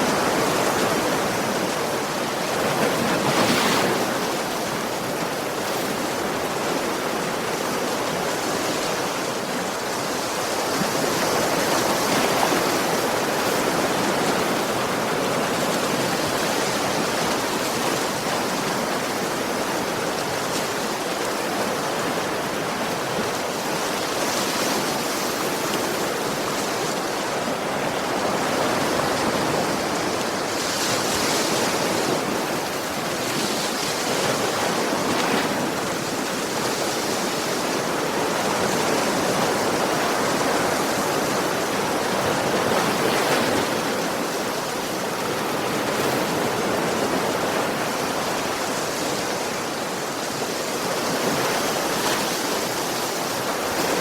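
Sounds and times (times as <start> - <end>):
ocean waves on a beach: 0.0 - 54.0.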